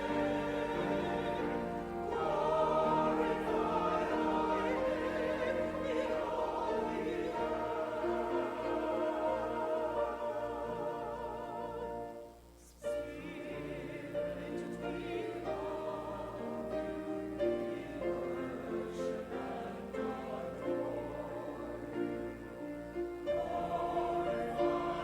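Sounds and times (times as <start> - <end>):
choir singing with vibrato: 0.0 - 25.0.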